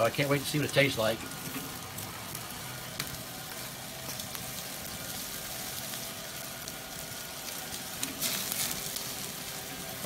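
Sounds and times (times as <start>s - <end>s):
chicken sizzling on grill: 0.0s - 10.0s.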